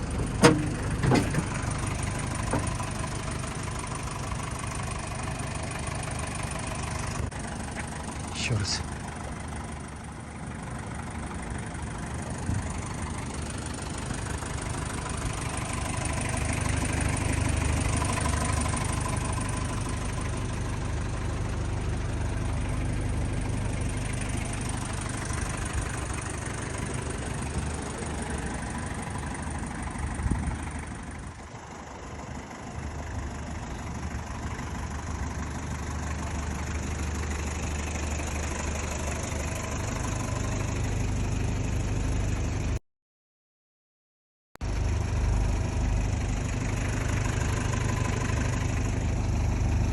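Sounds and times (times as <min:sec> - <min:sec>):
diesel engine idling: 0:00.0 - 0:42.8, 0:44.6 - 0:49.9.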